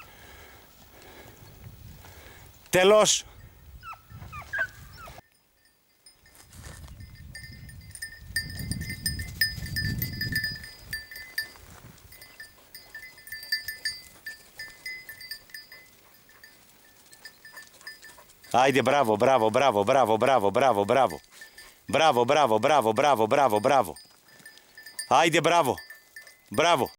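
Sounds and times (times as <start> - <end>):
small bell jingling: 4.9 - 26.9.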